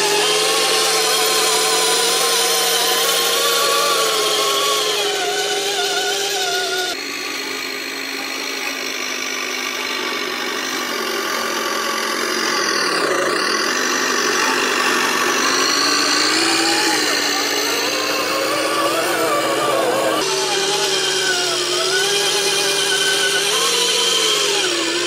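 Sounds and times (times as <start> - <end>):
toy truck motor humming: 0.0 - 25.0.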